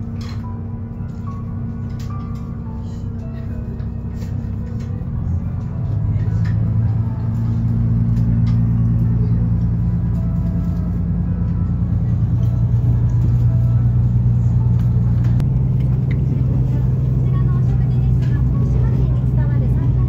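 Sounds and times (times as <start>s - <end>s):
railcar engine humming: 0.0s - 20.0s.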